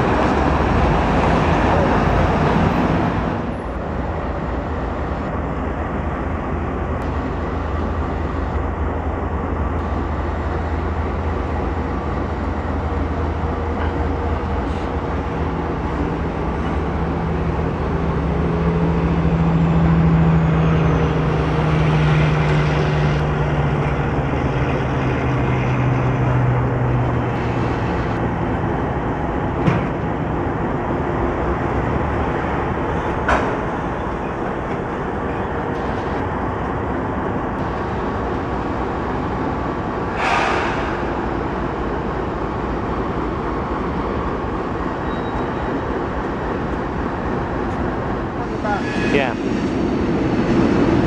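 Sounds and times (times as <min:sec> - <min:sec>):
freight train wheels rumbling on rail: 0:00.0 - 0:51.0.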